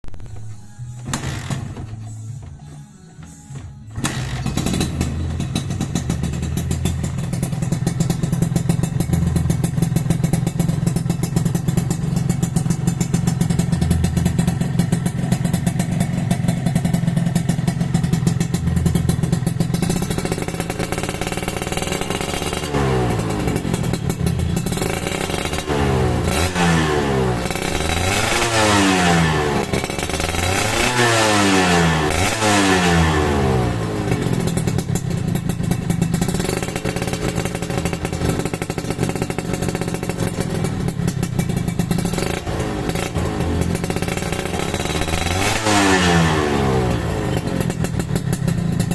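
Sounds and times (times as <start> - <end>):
motorcycle engine revving: 1.0 - 1.9, 3.9 - 48.9.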